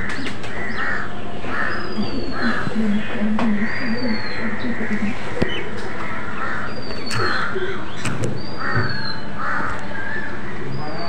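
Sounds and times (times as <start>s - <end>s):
crows cawing: 0.0s - 5.2s, 5.9s - 8.0s, 8.6s - 11.0s.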